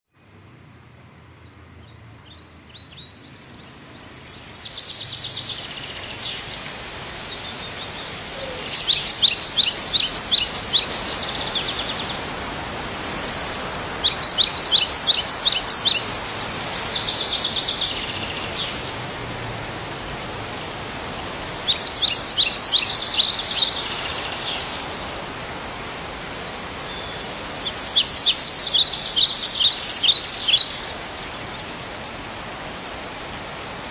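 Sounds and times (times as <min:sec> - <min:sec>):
songbird singing: 0:00.2 - 0:33.9
background hiss: 0:00.6 - 0:33.9.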